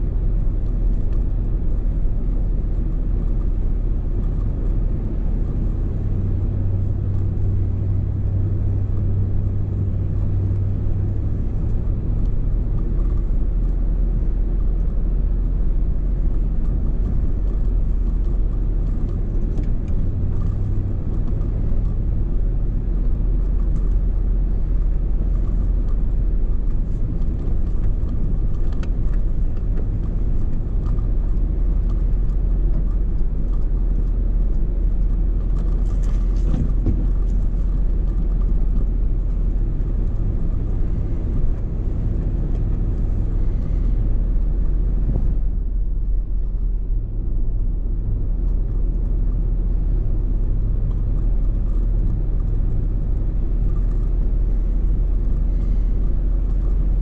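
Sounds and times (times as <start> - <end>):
truck engine and tyres droning: 0.0 - 57.0.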